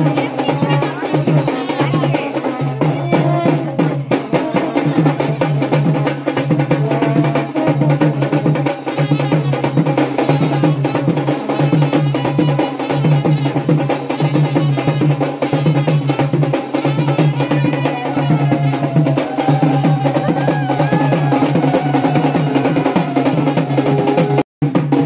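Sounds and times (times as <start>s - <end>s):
music with fast drumming: 0.0s - 25.0s.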